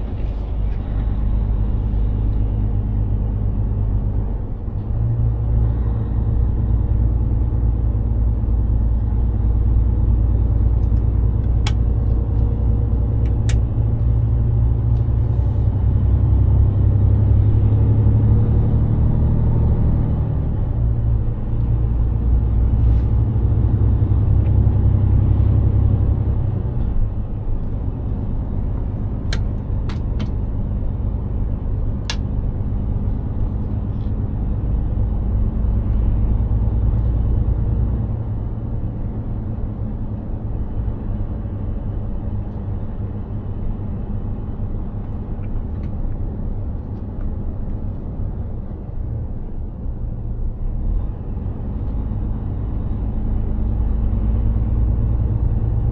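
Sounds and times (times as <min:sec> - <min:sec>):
road rumble: 0:00.0 - 0:55.9
truck diesel engine droning: 0:00.0 - 0:55.9.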